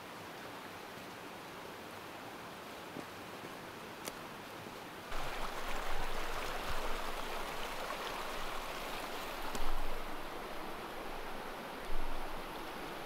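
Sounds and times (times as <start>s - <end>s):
steady hiss: 0.0s - 13.0s
stream rushing over rocks: 0.0s - 13.0s.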